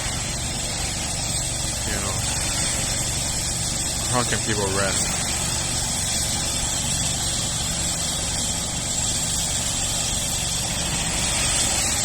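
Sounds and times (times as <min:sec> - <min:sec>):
machinery engine humming: 0:00.0 - 0:12.0.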